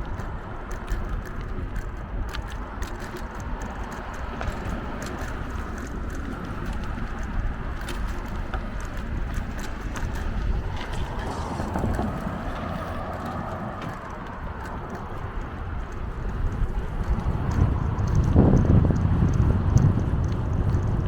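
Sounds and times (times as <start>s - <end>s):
bicycle tyre road noise: 0.0s - 21.0s.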